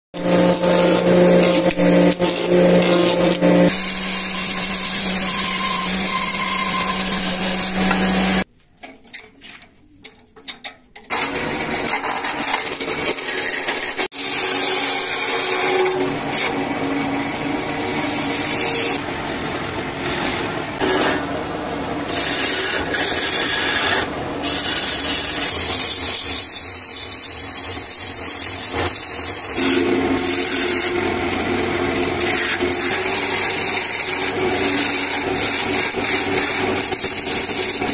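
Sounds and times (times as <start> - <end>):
lathe gouge rasping wood: 0.1 - 8.5, 11.1 - 21.3, 22.0 - 37.9.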